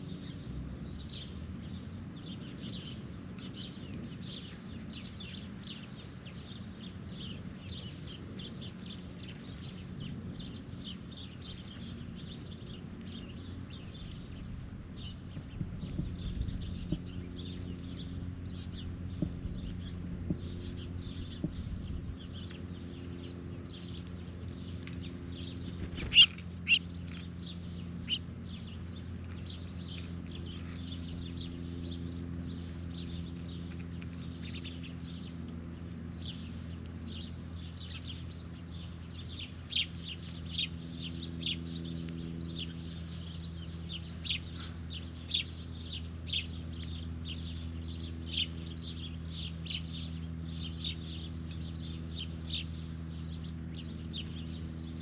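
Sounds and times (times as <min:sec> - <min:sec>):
birds chirping: 0:00.0 - 0:55.0
steady low hum: 0:00.0 - 0:55.0.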